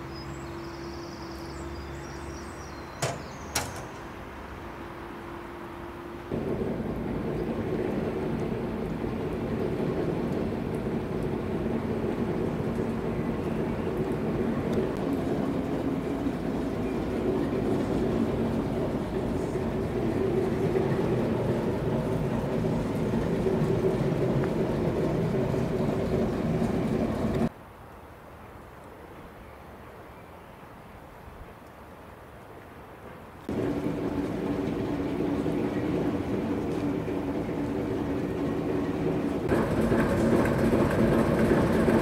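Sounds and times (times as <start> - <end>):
diesel locomotive engine humming: 0.0 - 27.5, 33.4 - 42.0.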